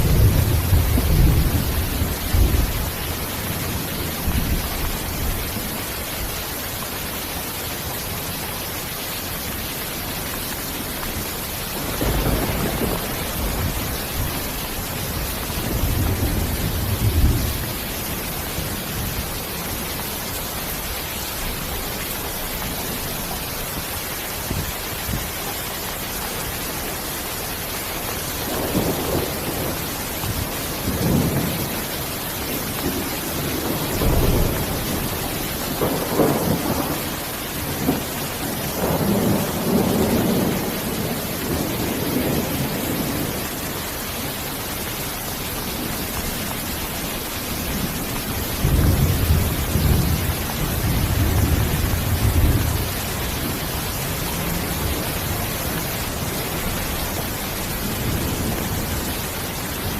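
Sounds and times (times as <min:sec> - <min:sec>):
thunder rumbling: 0:00.0 - 0:06.4, 0:10.4 - 0:25.4, 0:28.2 - 0:43.8, 0:45.5 - 0:59.9
rain hissing: 0:00.0 - 0:59.9.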